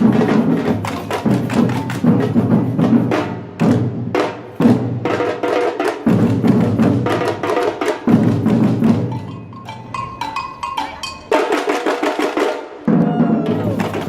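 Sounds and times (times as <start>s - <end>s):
samba drum group playing: 0.0s - 14.0s.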